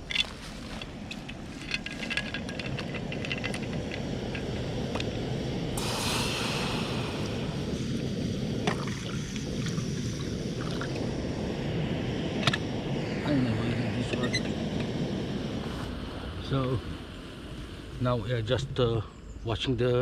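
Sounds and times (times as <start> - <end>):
steady low rushing: 0.0 - 19.4.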